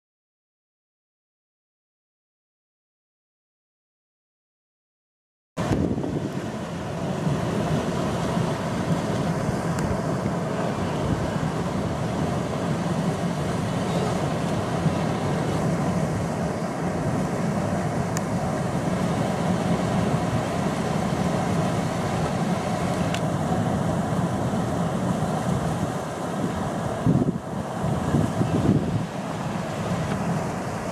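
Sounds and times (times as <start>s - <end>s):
wind on microphone: 5.6s - 30.9s
water splashing: 5.7s - 30.9s.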